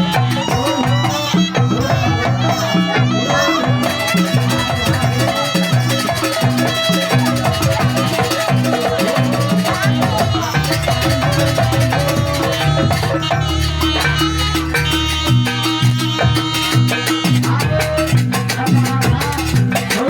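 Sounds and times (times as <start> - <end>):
drums and percussion: 0.0 - 20.0.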